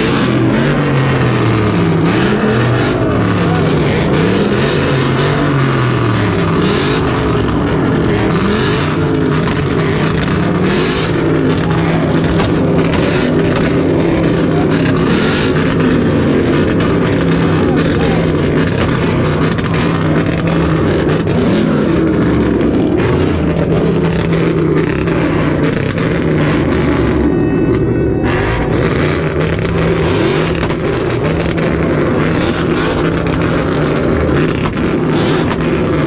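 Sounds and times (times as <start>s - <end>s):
car engine: 0.0s - 36.0s.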